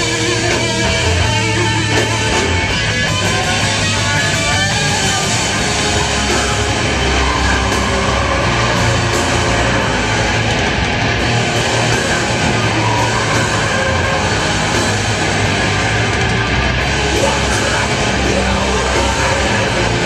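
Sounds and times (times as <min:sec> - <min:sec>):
heavy metal band playing live: 0:00.0 - 0:20.0.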